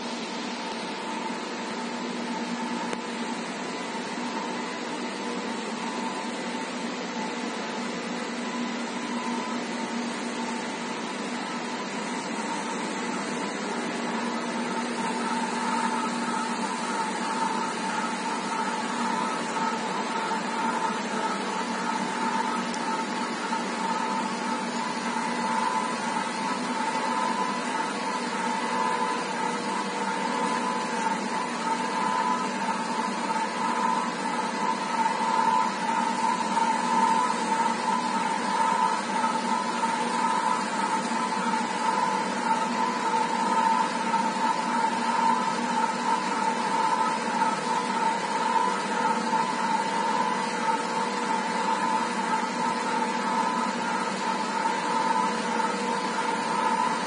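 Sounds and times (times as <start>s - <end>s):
constant machine whine: 0.0s - 57.0s.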